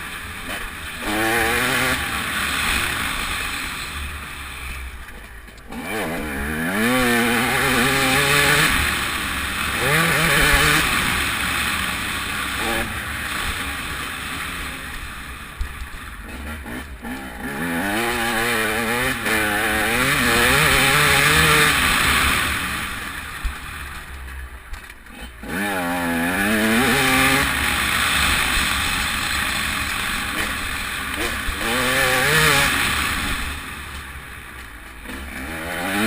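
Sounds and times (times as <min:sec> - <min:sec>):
motocross bike engine revving: 0:00.0 - 0:24.2, 0:25.0 - 0:36.0.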